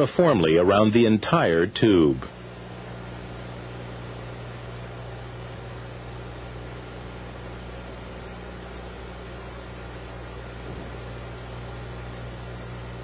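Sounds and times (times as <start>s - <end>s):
electrical hum: 0.0s - 13.0s
gas torch flame hissing: 2.3s - 13.0s.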